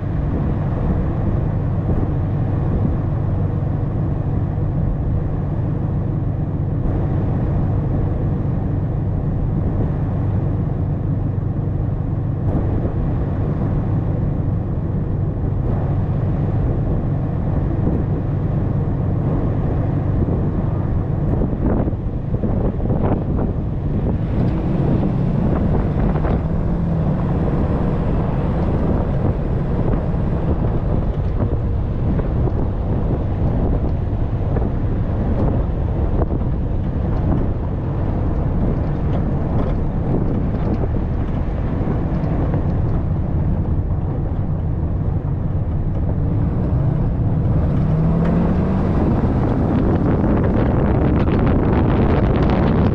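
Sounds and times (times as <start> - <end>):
truck engine drone: 0.0 - 52.9
wind buffeting microphone: 0.0 - 52.9.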